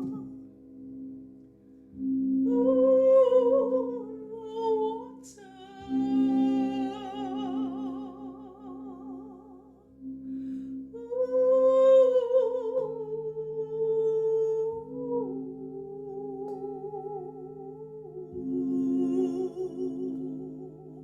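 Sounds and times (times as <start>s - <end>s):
wordless humming with vibrato: 0.0s - 1.3s, 1.9s - 21.0s.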